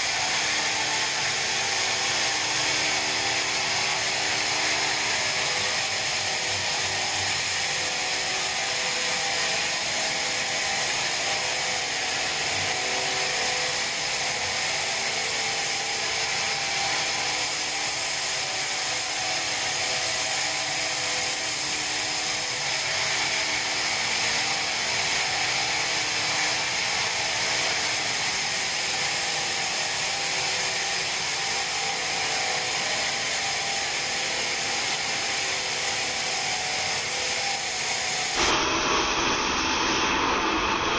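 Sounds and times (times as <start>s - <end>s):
band saw cutting log: 0.0s - 38.7s.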